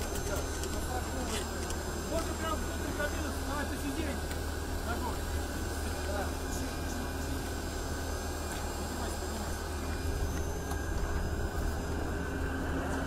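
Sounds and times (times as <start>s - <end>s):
aircraft machinery rumble and hiss: 0.0s - 13.0s
high-pitched whine tones: 0.0s - 13.0s.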